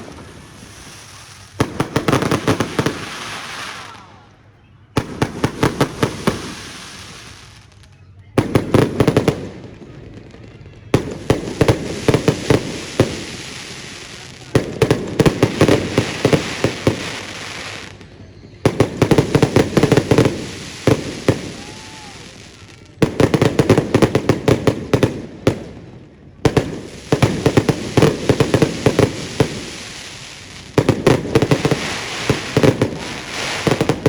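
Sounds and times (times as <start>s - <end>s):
fireworks hiss: 0.0s - 4.3s, 5.0s - 7.8s, 11.1s - 25.0s, 26.5s - 34.0s
fireworks cracking: 0.0s - 34.0s.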